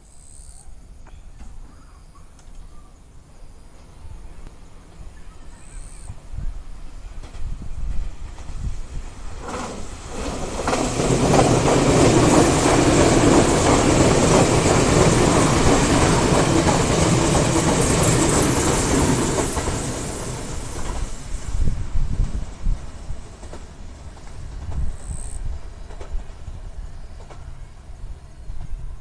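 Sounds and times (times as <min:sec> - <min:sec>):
train wheels rumbling on rails: 0:03.7 - 0:29.0.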